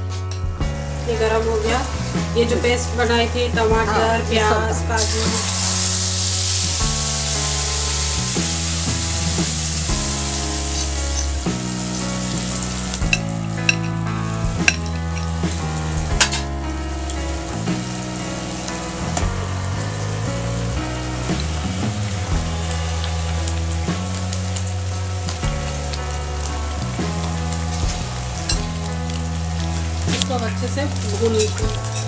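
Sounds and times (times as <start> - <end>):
paste sizzling in hot oil: 3.8 - 32.0.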